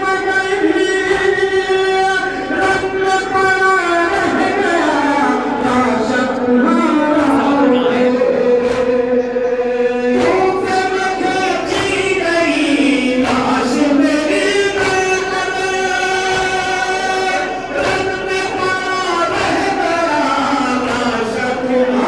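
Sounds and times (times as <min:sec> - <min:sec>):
men singing a lament together: 0:00.0 - 0:22.0.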